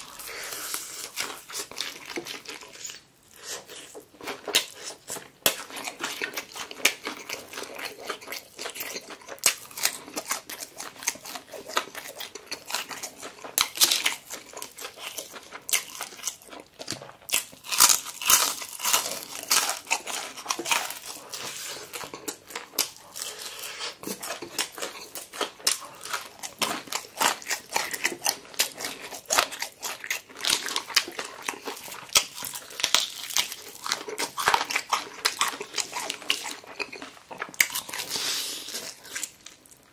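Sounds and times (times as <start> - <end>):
chewing crispy fried chicken: 0.0 - 39.9.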